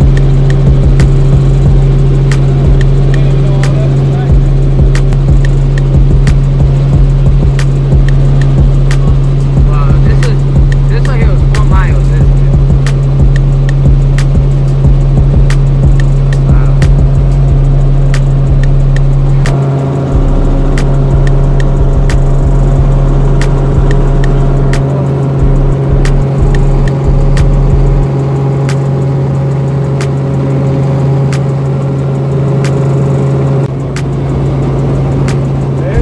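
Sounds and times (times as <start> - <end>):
low rumble gusts: 0.0 - 29.7
helicopter engine and rotor drone: 0.0 - 36.0.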